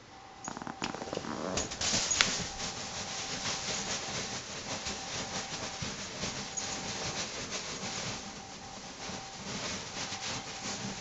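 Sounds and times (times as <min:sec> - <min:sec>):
beanbag rustling: 0:00.4 - 0:11.0
dog scratching at beanbag: 0:00.4 - 0:11.0.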